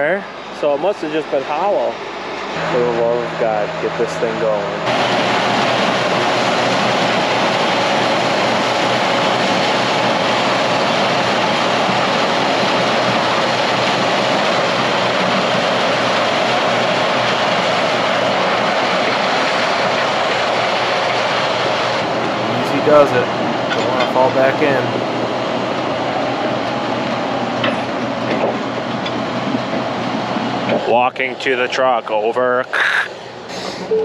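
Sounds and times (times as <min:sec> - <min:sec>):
farm machinery running: 0:02.6 - 0:30.9.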